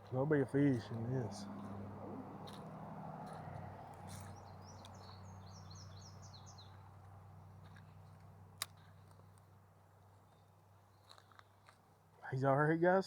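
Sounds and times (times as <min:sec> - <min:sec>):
songbird chirping: 0:00.0 - 0:11.8.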